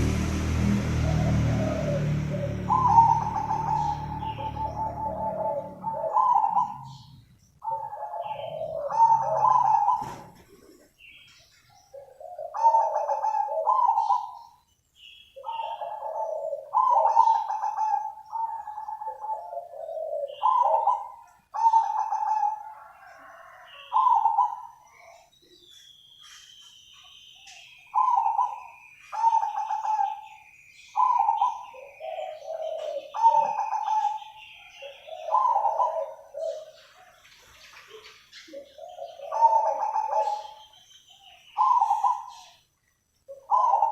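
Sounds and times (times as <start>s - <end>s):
dove cooing: 0.0s - 14.6s, 15.4s - 25.4s, 27.6s - 42.6s, 43.3s - 43.9s.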